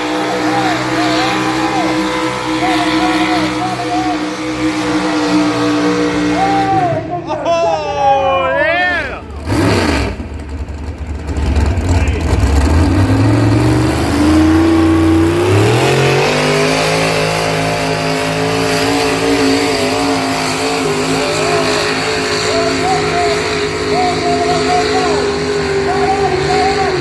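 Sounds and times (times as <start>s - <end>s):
engine revving under load: 0.0s - 7.2s, 8.8s - 27.0s.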